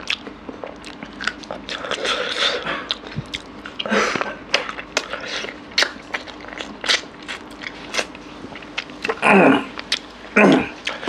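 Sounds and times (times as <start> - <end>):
chewing and lip-smacking: 0.0 - 11.0.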